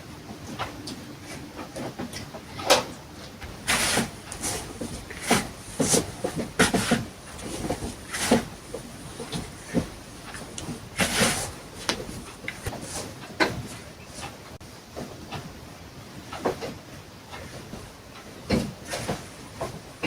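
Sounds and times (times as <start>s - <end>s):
objects knocking and clunking: 0.2s - 15.5s, 16.3s - 20.0s.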